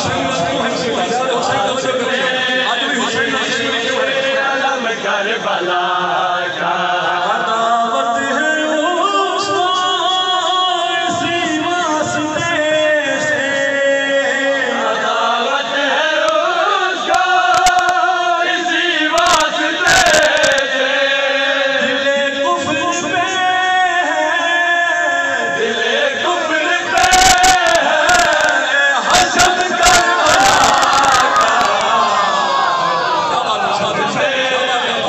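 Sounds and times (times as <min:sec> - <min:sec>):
man singing chant through microphone: 0:00.0 - 0:35.0
men singing in chorus: 0:00.0 - 0:35.0.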